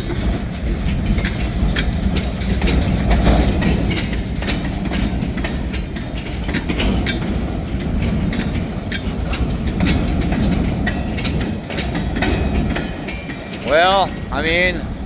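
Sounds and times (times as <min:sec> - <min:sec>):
freight train rumbling past: 0:00.0 - 0:15.0
wheels clanking over rail joints: 0:00.0 - 0:15.0.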